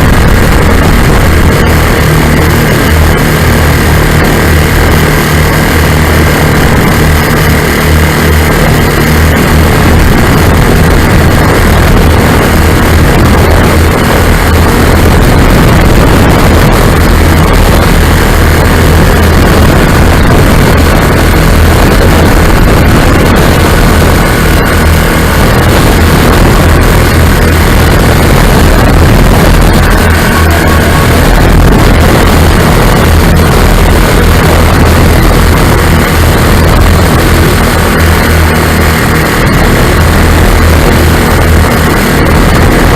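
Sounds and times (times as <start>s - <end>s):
ultralight aircraft engines running: 0.0s - 42.9s
wind rush on microphone: 0.0s - 42.9s.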